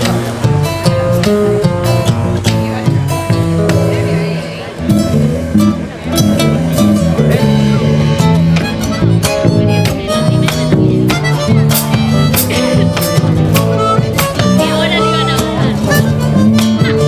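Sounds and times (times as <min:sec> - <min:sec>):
dissonant acoustic ensemble music: 0:00.0 - 0:17.0.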